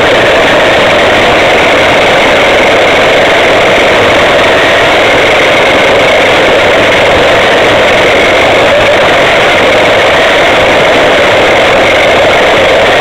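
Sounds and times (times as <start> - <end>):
steady motor whine: 0.0 - 13.0
toy car rumbling and rattling: 0.0 - 13.0.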